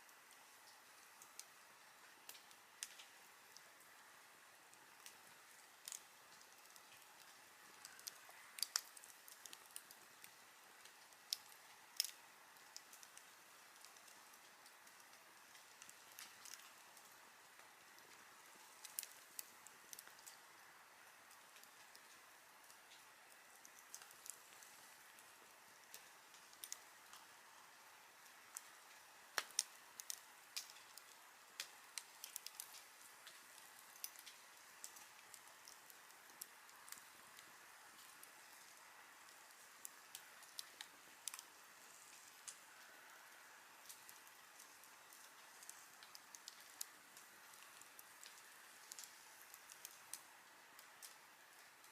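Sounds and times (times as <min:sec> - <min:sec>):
campfire crackling: 0:00.0 - 0:51.9
fire popping: 0:00.0 - 0:51.9.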